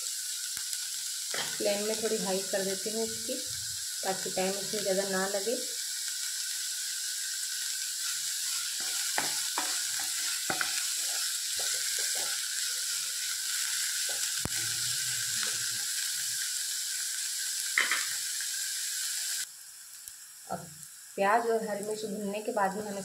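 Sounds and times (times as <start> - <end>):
onions sizzling in hot fat: 0.0 - 23.0.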